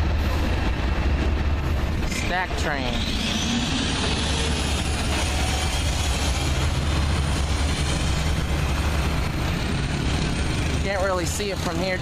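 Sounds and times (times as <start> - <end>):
train rolling past rumbling: 0.0 - 12.0
wheels on rail: 0.0 - 12.0.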